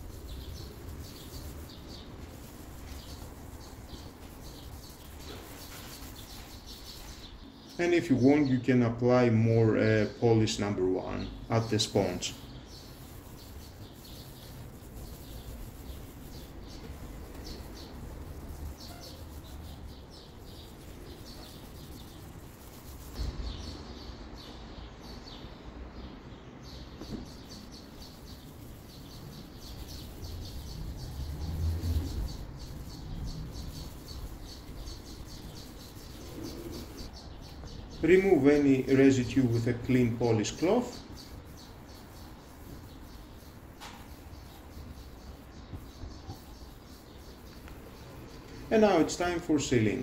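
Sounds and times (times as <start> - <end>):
sponge squeaking on plastic: 0.0 - 7.3, 11.5 - 23.3, 27.0 - 49.9.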